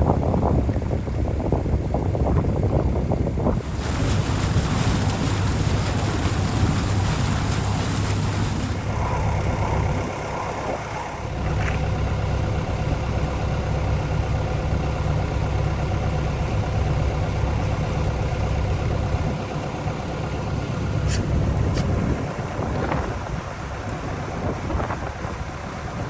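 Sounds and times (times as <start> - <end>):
diesel engine running: 2.6 - 26.0.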